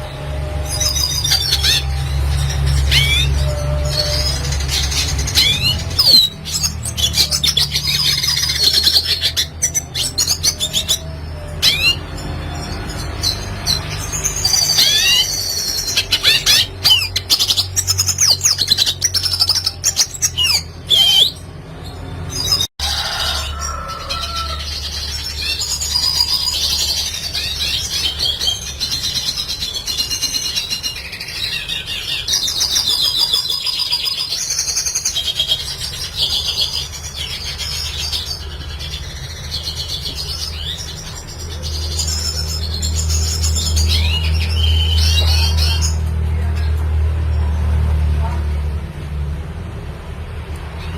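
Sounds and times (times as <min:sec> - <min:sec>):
bird twittering song: 0:00.0 - 0:22.7, 0:23.3 - 0:47.5.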